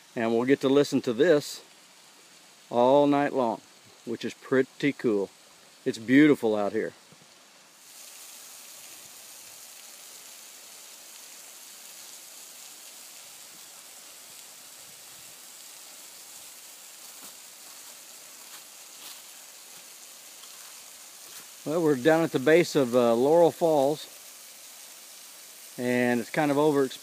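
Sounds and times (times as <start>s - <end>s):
waterfall splashing on rocks: 0.0s - 27.0s.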